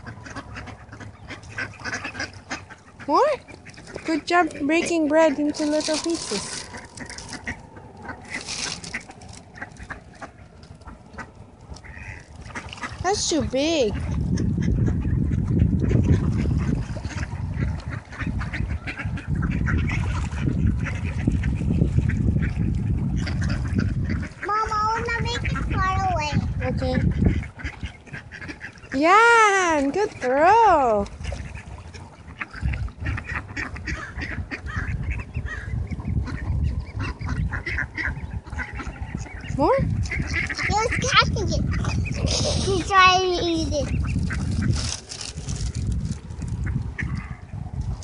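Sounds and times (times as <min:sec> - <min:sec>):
ducks quacking: 0:00.0 - 0:47.9.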